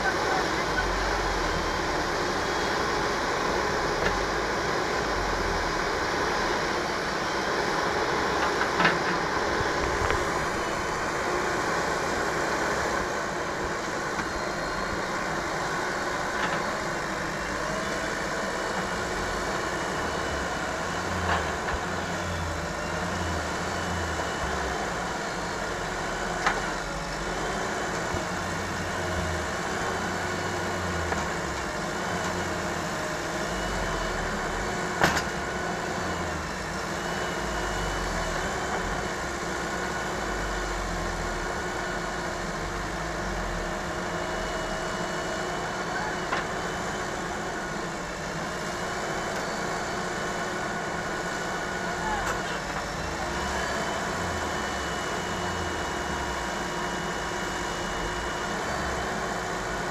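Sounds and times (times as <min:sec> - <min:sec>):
diesel engine working: 0:00.0 - 0:59.9.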